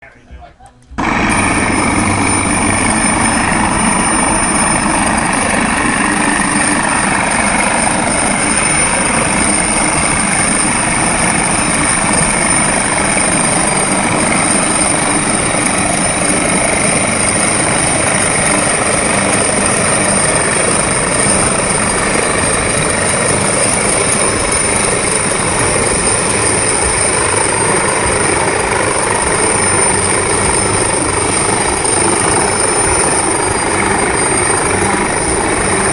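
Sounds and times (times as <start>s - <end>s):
helicopter rotor and engine: 0.0s - 35.9s
thin high whine: 0.0s - 35.9s.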